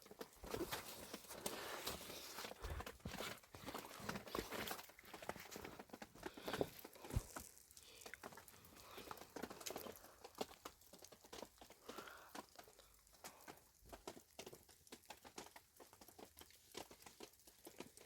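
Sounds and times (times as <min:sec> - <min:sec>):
crunching and rustling: 0:00.0 - 0:18.0.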